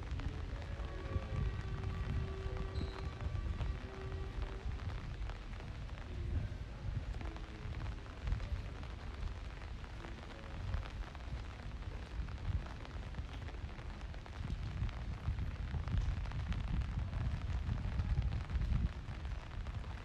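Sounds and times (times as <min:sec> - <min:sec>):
rainy street hiss: 0:00.0 - 0:20.0
wind buffeting microphone: 0:00.0 - 0:20.0.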